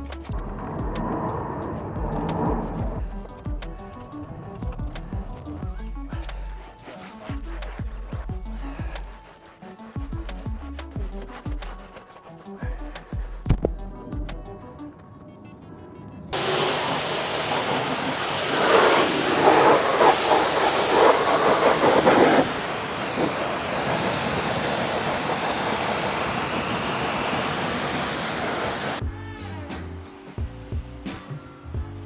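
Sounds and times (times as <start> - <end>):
pressure washer spraying: 0.0 - 13.7, 16.4 - 29.0.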